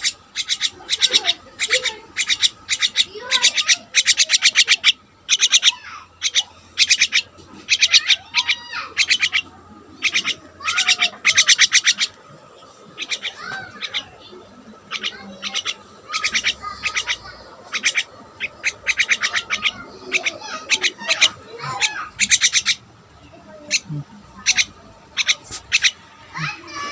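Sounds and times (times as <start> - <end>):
birds chattering harshly: 0.0 - 26.9.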